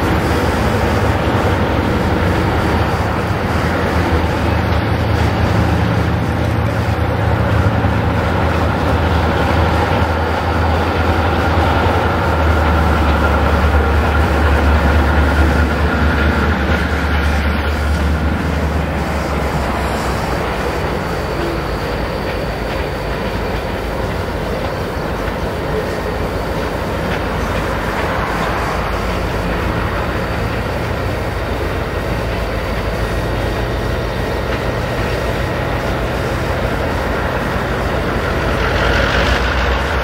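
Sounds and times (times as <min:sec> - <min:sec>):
diesel locomotives running: 0:00.0 - 0:40.0
train wheels rolling on track: 0:00.0 - 0:40.0.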